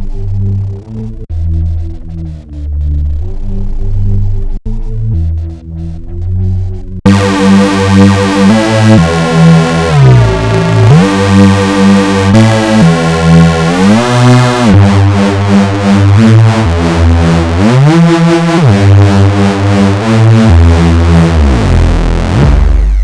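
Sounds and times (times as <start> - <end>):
gliding bass synthesizer notes: 0.0 - 23.0.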